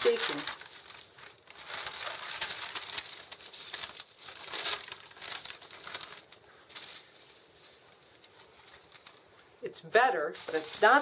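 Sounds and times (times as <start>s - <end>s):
paper rustling and crinkling: 0.0s - 9.4s, 10.2s - 11.0s.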